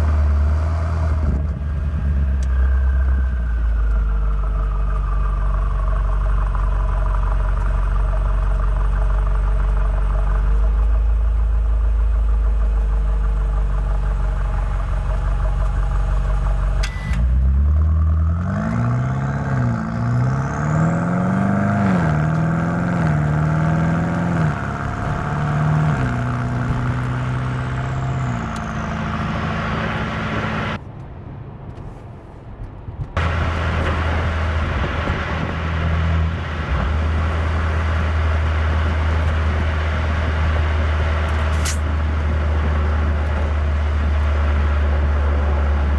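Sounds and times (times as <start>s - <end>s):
car engine accelerating through gears: 0.0s - 30.8s, 33.0s - 45.9s.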